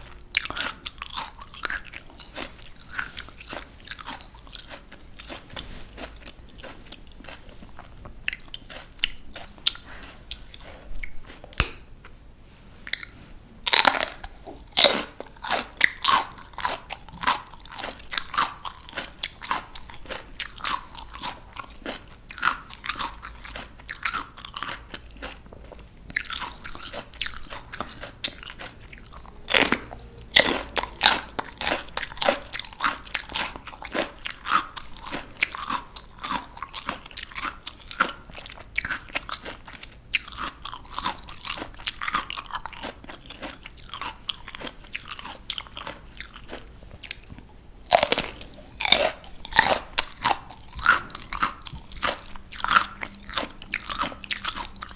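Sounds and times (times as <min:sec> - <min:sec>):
crunchy chewing: 0:00.0 - 0:11.9, 0:12.8 - 0:54.9
crisp vegetable bites: 0:00.3 - 0:11.9, 0:12.9 - 0:54.9.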